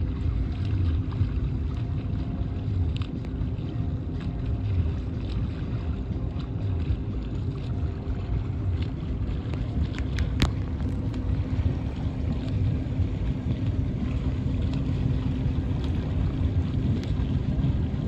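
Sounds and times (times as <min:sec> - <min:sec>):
boat motor running: 0:00.0 - 0:18.0
wind buffeting microphone: 0:00.0 - 0:18.0.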